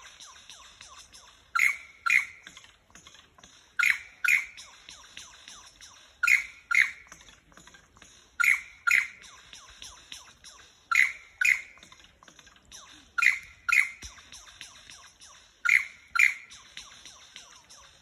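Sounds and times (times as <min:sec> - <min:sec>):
bird calling in doubled notes: 0:00.0 - 0:02.6, 0:03.8 - 0:07.2, 0:08.4 - 0:11.9, 0:12.7 - 0:18.0
faint bird chirps: 0:00.0 - 0:18.0.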